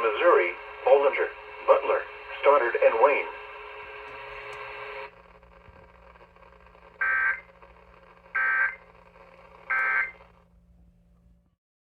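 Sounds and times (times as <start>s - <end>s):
faint low hum: 0.0s - 11.6s.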